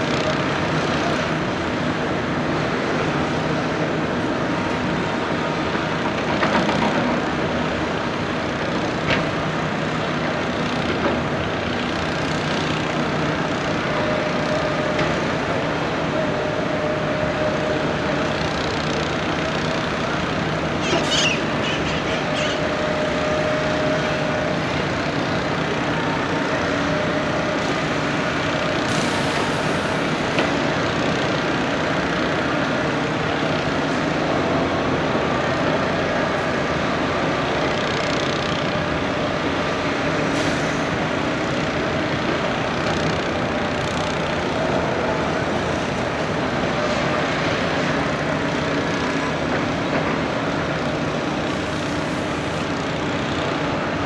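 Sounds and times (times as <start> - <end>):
excavator diesel engine drone: 0.0 - 54.0.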